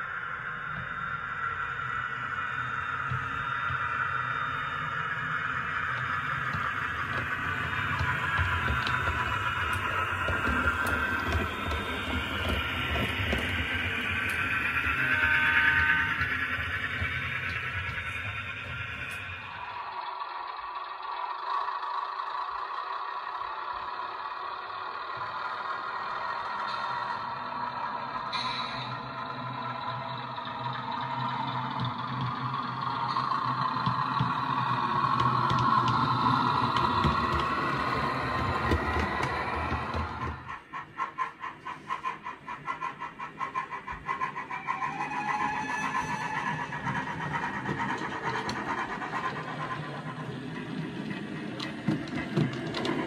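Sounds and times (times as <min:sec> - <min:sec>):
model train motor hum: 0:00.0 - 0:53.0
wheel rumble on track: 0:02.2 - 0:53.0.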